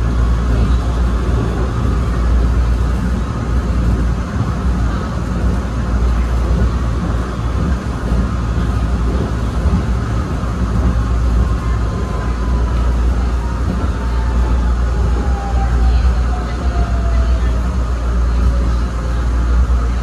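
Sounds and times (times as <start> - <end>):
railcar rumbling along track: 0.0 - 20.0.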